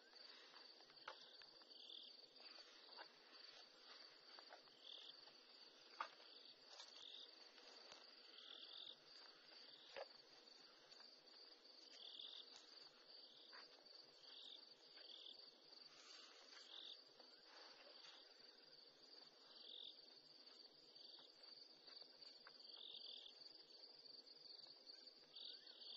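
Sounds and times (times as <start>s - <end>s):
insect chirping: 0.0s - 25.9s
insects trilling: 0.0s - 25.9s.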